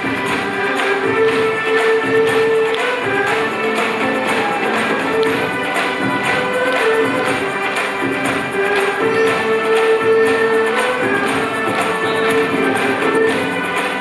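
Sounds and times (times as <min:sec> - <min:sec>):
djembe hand drums: 0:00.0 - 0:14.0
flute: 0:00.1 - 0:14.0.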